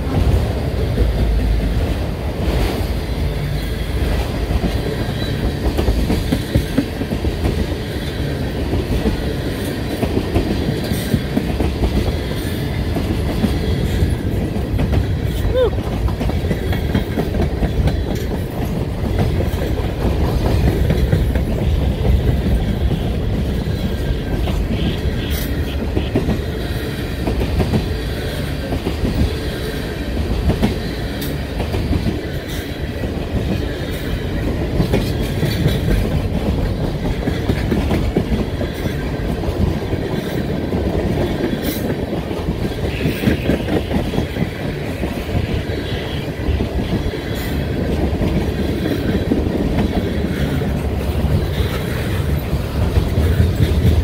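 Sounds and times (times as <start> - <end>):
freight train wheels rumbling: 0.0 - 54.0
wheels clacking over rail joints: 0.0 - 54.0.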